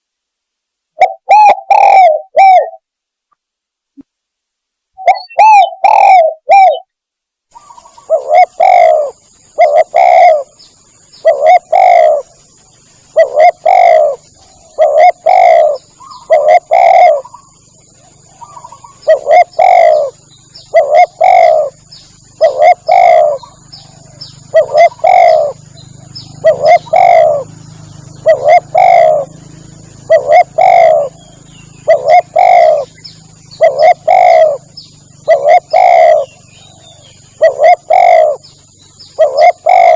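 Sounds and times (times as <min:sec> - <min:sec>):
faint high-pitched whine: 0:00.0 - 0:39.9
dove cooing: 0:01.0 - 0:02.8, 0:05.0 - 0:06.9, 0:07.5 - 0:39.9.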